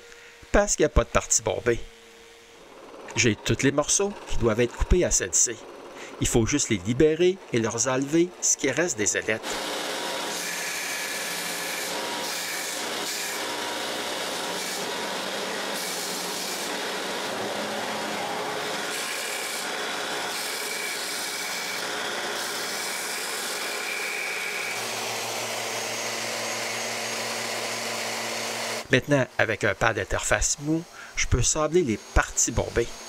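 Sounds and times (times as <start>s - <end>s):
bench sander grinding wood: 0.0s - 33.0s
random orbital sander: 0.3s - 33.0s.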